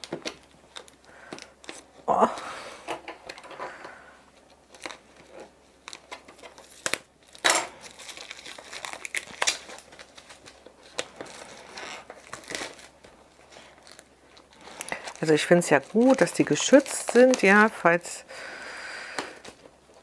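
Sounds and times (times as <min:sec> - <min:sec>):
plastic film crinkling and tearing: 0:00.0 - 0:02.4, 0:04.3 - 0:18.0.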